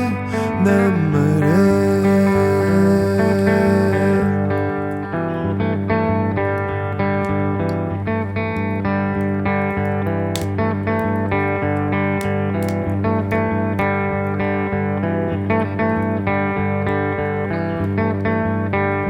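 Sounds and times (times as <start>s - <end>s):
plucked guitar notes: 0.0s - 19.0s.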